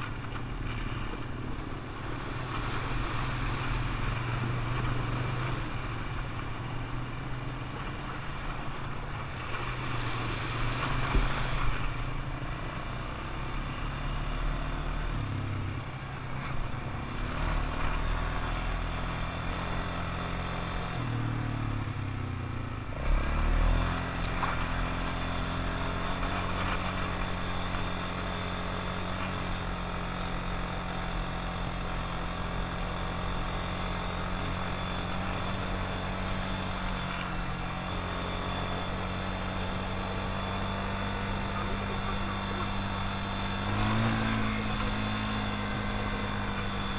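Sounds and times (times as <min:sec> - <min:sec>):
atv engine revving: 0:07.7 - 0:46.9.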